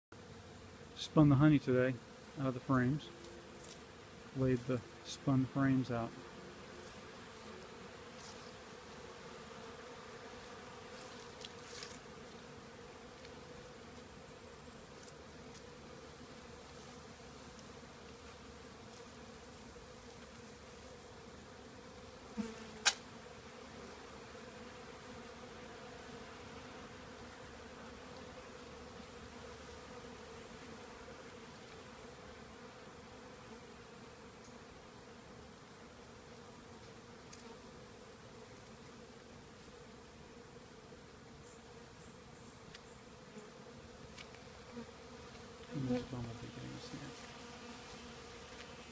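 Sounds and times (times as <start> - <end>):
bees buzzing: 0.2 - 48.9.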